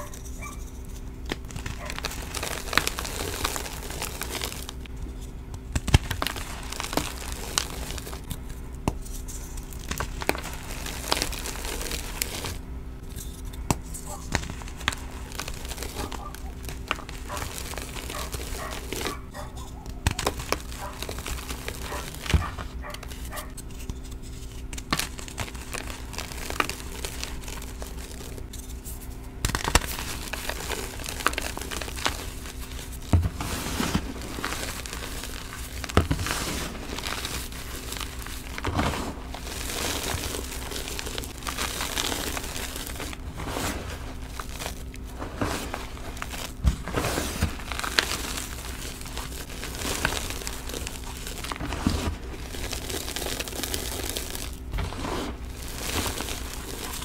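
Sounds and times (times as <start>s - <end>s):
chalk crunching and crumbling: 0.0s - 57.0s
faint steady hum: 0.0s - 57.0s.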